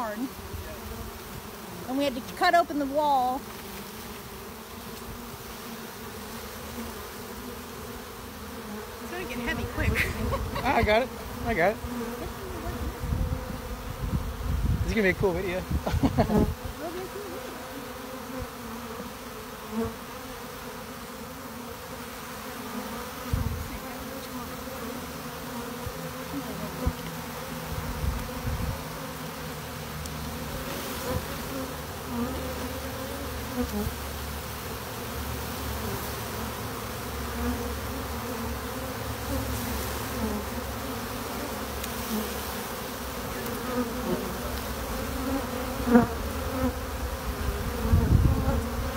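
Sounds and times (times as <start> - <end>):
honeybee swarm humming: 0.0 - 48.9.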